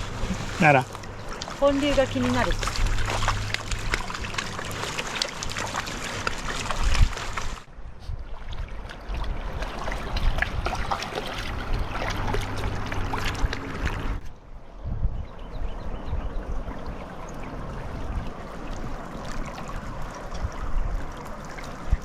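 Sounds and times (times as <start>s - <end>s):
creek splashing over rocks: 0.0s - 7.7s, 8.3s - 14.2s, 16.7s - 22.0s.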